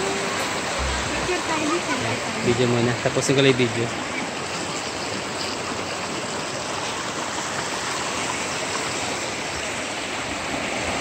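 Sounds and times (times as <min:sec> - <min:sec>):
river running over rocks: 0:00.0 - 0:11.0.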